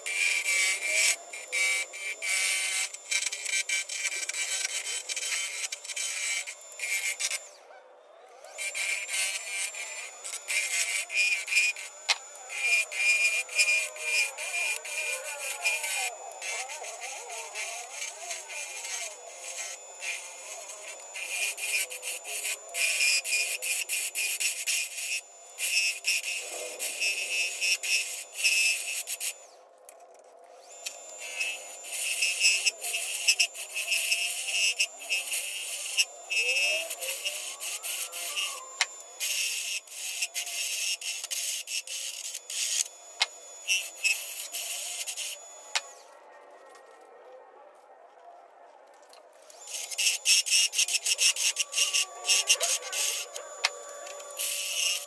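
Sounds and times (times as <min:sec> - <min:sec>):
lathe tool scraping wood: 0:00.0 - 0:07.5, 0:08.5 - 0:29.4, 0:30.6 - 0:46.0, 0:49.4 - 0:55.0.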